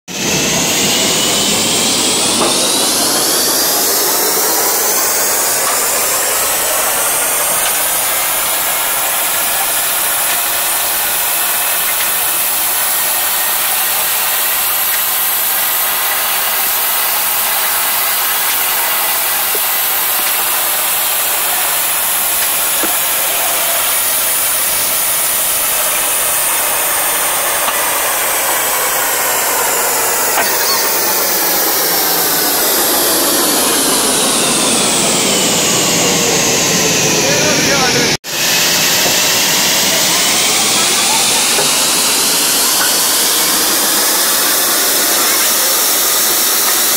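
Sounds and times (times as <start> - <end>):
band saw cutting log: 0.1 - 46.9.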